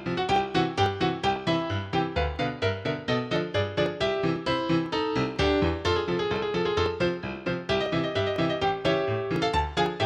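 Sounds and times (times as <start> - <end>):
piano melody with steady beat: 0.0 - 10.0.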